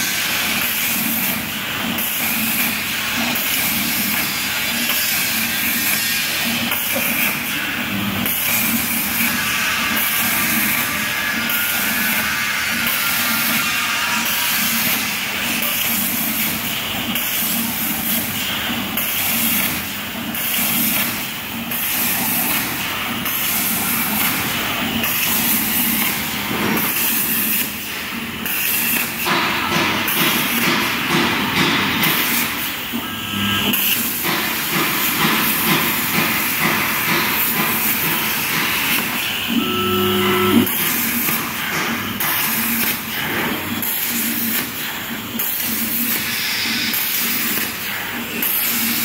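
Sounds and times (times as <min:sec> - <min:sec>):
plasma cutter hissing: 0:00.0 - 0:39.6, 0:40.4 - 0:49.0.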